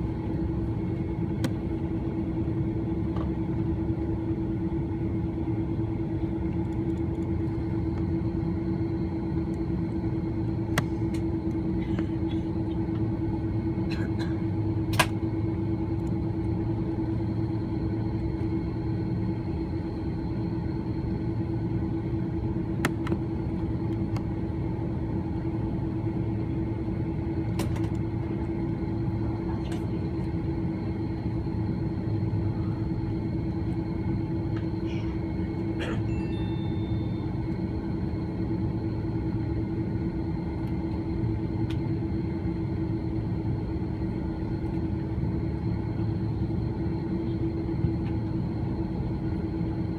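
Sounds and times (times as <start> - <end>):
aircraft cabin rumble: 0.0 - 49.9.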